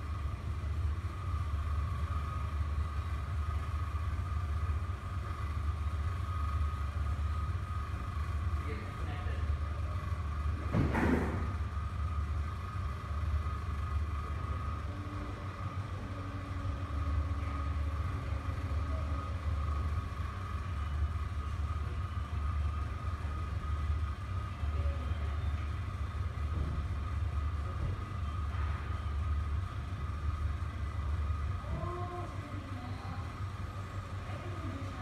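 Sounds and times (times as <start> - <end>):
low machinery rumble: 0.0 - 35.0.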